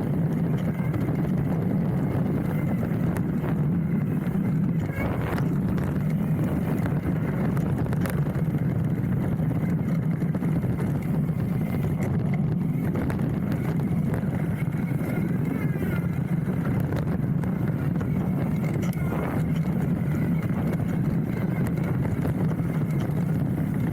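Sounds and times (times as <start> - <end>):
bike rattling over bumps: 0.0 - 23.9
tyre roar on dirt trail: 0.0 - 23.9.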